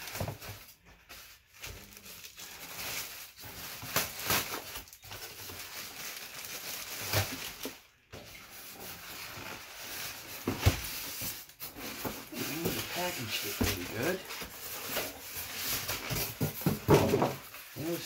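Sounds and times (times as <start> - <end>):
plastic and foam crinkling: 0.0 - 18.0.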